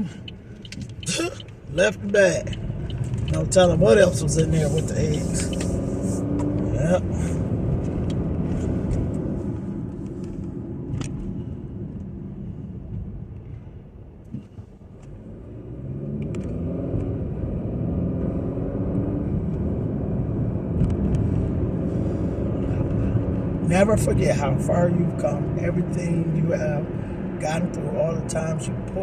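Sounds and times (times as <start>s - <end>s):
car engine: 0.0s - 29.0s
road rumble: 0.0s - 29.0s.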